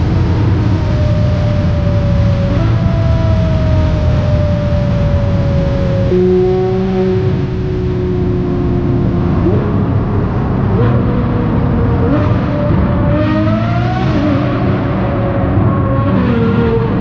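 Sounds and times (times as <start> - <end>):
racing engines accelerating: 0.0 - 17.0.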